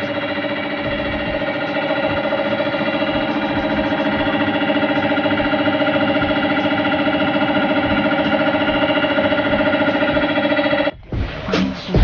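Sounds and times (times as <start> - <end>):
air compressor throbbing: 0.0 - 12.0.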